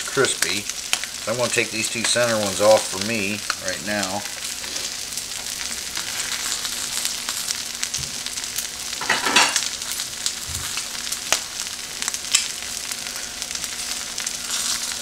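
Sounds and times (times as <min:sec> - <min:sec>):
food sizzling on griddle: 0:00.0 - 0:15.0
griddle heating hum: 0:00.0 - 0:15.0.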